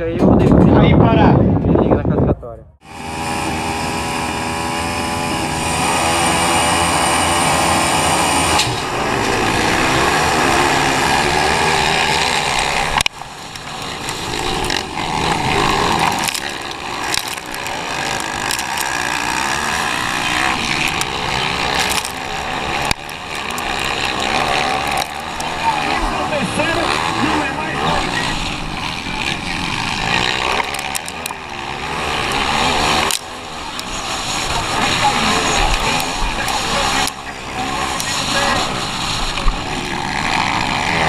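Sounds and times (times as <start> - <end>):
motocross bike engines revving: 2.8 - 41.0.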